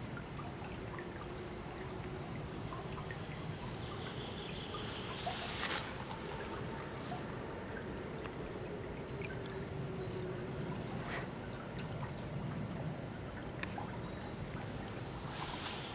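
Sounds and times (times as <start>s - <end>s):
faint water splashes: 0.0s - 15.9s
shallow stream flowing: 0.0s - 15.9s.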